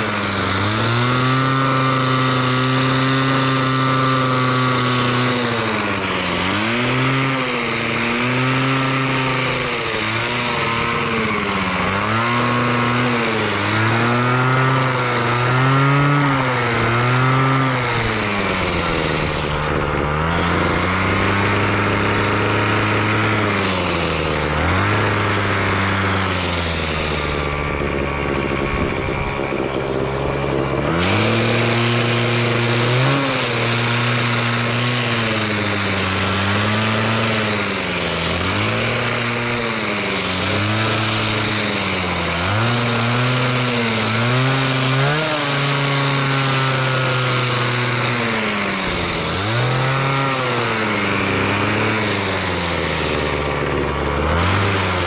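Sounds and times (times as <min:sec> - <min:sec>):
two-stroke hedge trimmer revving: 0:00.0 - 0:55.0.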